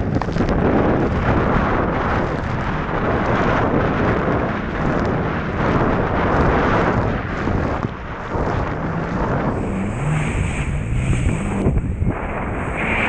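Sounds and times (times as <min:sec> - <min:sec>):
wind buffeting microphone: 0:00.0 - 0:13.0
jet ski engine: 0:00.1 - 0:13.0.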